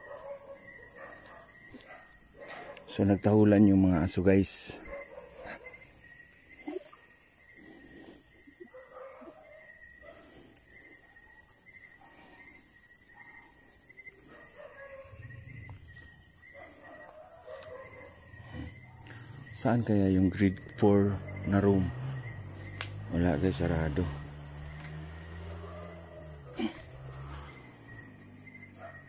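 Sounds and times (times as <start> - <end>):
cricket chirping: 0.0 - 29.0
high-pitched insect trill: 5.0 - 29.0.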